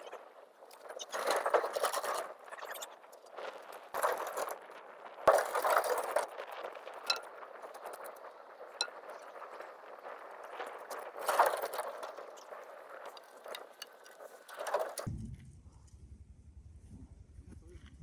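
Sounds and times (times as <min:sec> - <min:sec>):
scraping: 0:00.0 - 0:15.1.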